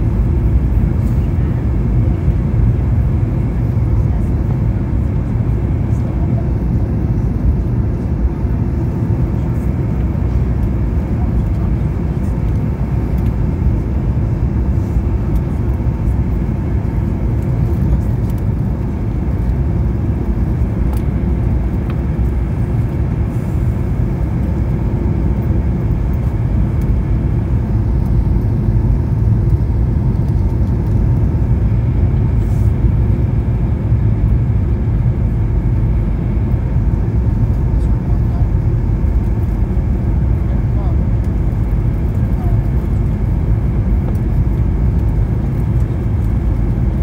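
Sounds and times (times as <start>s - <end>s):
airplane cabin engine rumble: 0.0s - 47.0s.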